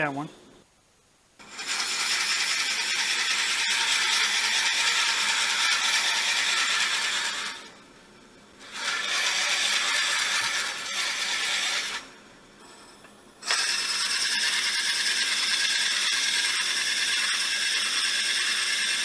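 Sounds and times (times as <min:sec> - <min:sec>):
drill bit boring into wood: 0:01.4 - 0:07.7, 0:08.6 - 0:12.1, 0:13.4 - 0:19.0.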